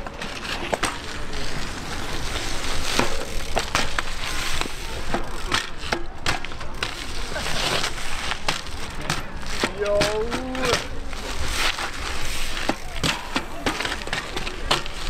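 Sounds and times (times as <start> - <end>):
bike clicks and knocks: 0.0 - 15.0
bike tyres crunching over grit: 0.0 - 15.0.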